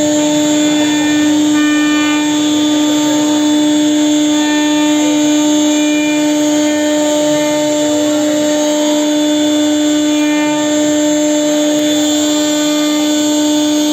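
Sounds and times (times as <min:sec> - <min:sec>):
router bit carving wood: 0:00.0 - 0:13.9
router spindle whining: 0:00.0 - 0:13.9.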